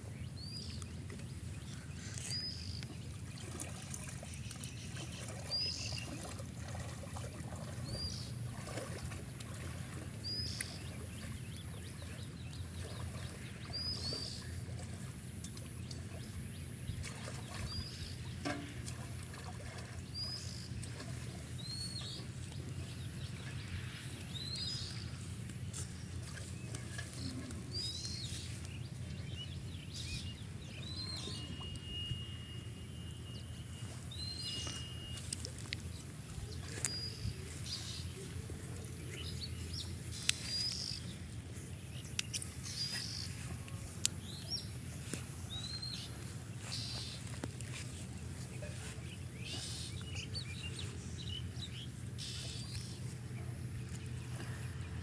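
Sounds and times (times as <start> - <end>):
water splashing from swimming: 0.0 - 29.2, 33.4 - 55.0
steady low hum: 0.0 - 55.0.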